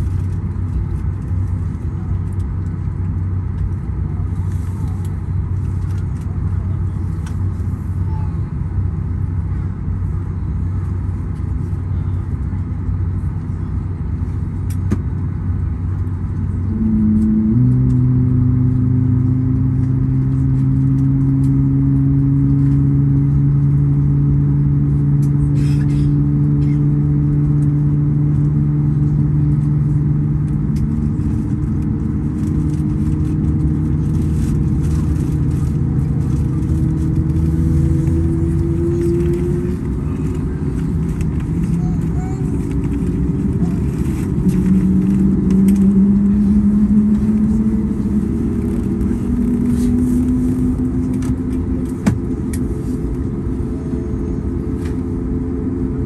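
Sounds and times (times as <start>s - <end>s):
aircraft engines rumbling: 0.0s - 56.0s.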